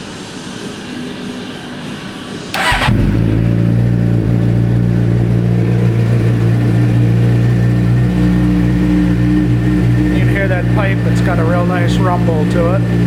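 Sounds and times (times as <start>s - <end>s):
motorcycle engine starting and idling: 2.5s - 13.0s.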